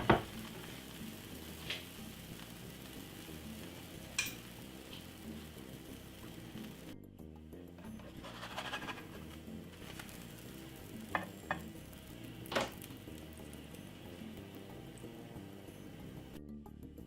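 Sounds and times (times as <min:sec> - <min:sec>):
batter sizzling in a pan: 0:00.0 - 0:17.0.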